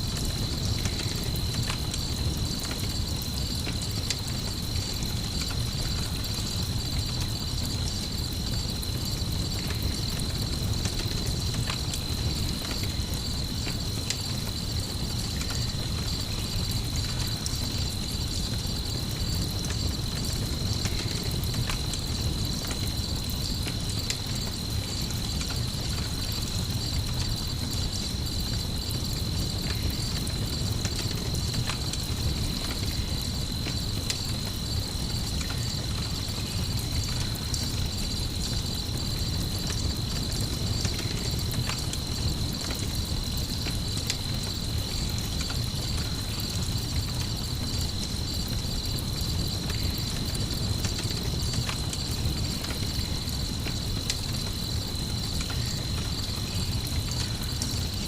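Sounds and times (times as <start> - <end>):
campfire crackling and popping: 0.0 - 58.0
crickets trilling: 0.0 - 58.0.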